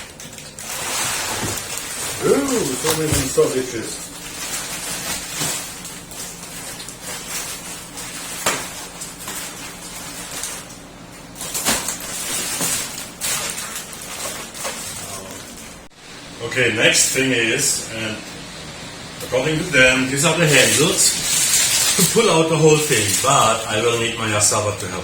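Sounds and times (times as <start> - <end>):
packing material rustling: 0.0 - 15.9, 19.8 - 24.6.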